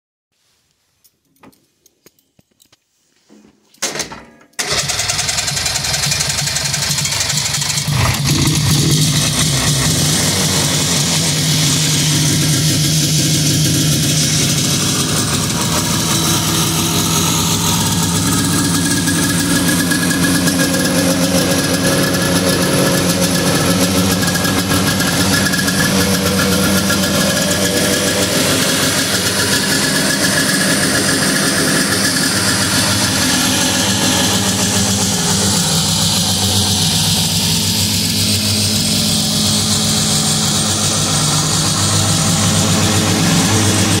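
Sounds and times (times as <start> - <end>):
snowmobile engine idling: 4.6 - 44.0.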